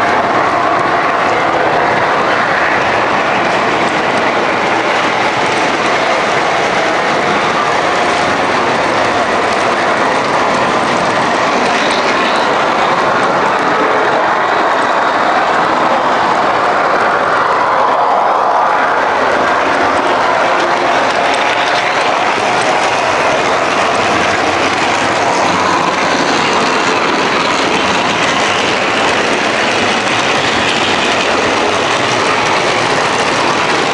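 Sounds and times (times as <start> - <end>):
model train rumbling on track: 0.0 - 33.9.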